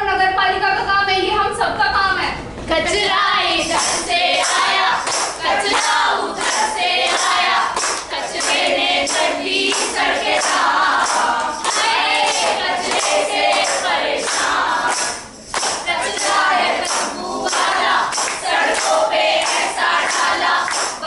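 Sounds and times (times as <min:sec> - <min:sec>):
girls singing in unison: 0:02.9 - 0:21.0
hand claps: 0:03.7 - 0:21.0.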